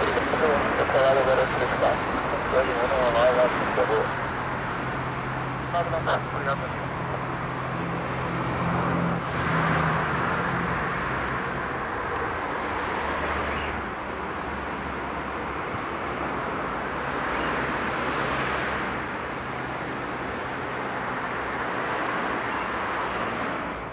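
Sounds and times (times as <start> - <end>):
distant engine roar: 0.0 - 23.9.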